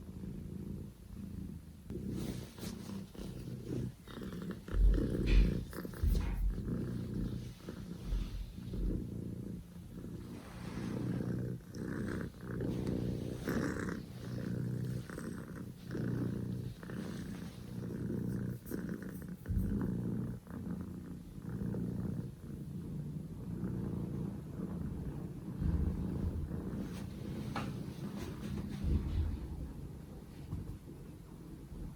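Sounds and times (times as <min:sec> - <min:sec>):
kitten purring: 0:00.0 - 0:31.9.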